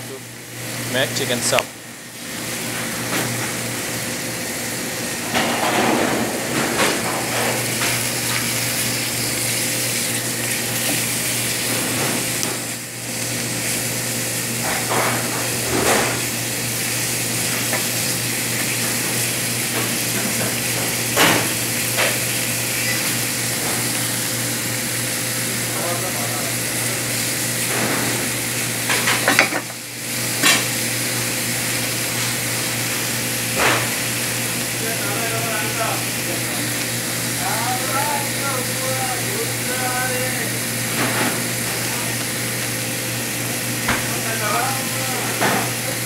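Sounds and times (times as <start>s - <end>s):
chicken sizzling in a frying pan: 7.3s - 46.0s.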